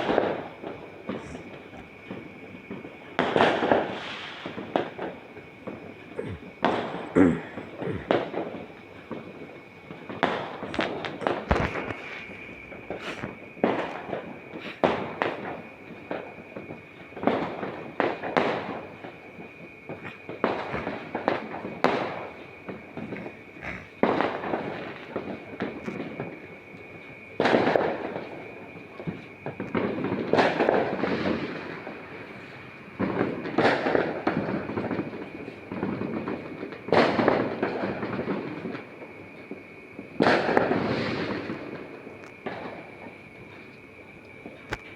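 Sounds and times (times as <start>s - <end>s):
fireworks banging: 0.0s - 43.7s.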